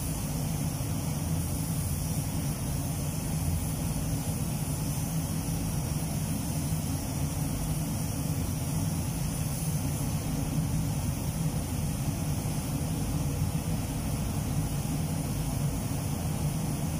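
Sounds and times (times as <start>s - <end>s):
air flow hum and hiss: 0.0s - 16.9s
spray gun spraying: 0.0s - 16.9s.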